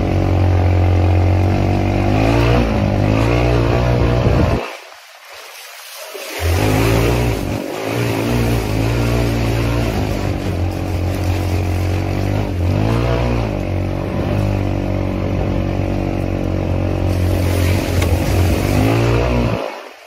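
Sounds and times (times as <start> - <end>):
quad engine revving: 0.0 - 4.8, 6.3 - 19.9.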